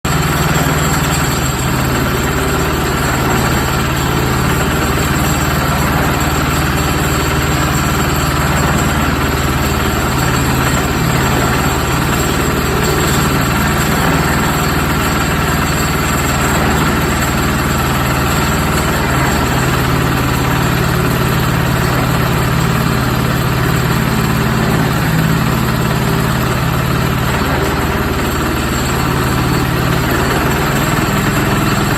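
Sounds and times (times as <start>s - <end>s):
concrete mixer engine idling: 0.0s - 31.9s.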